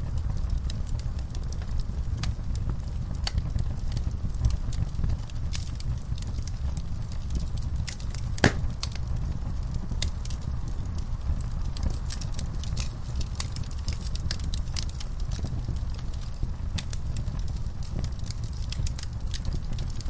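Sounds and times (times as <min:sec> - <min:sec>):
fire crackling and popping: 0:00.0 - 0:20.0
low fire rumble: 0:00.0 - 0:20.0
loud fire snap: 0:00.1 - 0:20.0.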